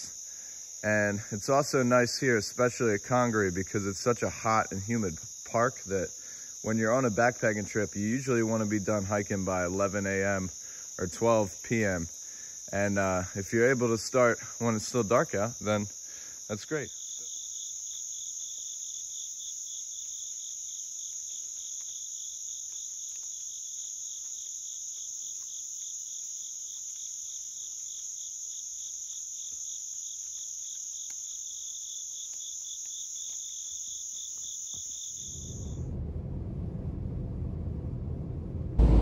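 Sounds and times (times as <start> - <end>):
high insect trill: 0.0 - 35.9
low pulsing insect call: 0.0 - 39.0.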